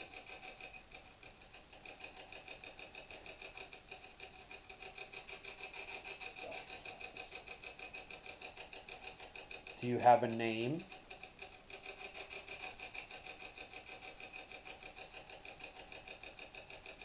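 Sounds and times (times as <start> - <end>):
spirit box choppy static: 0.0 - 17.0.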